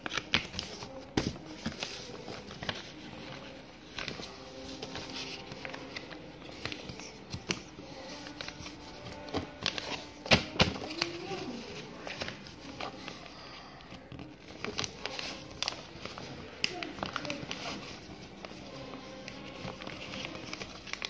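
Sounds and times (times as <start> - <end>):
paper folding and rustling: 0.0 - 21.0.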